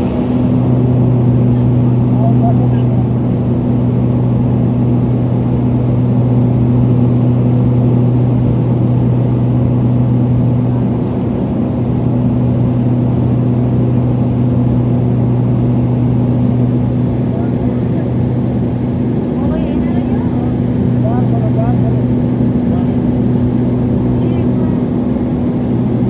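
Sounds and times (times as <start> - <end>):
turboprop engines droning in cabin: 0.0 - 26.0.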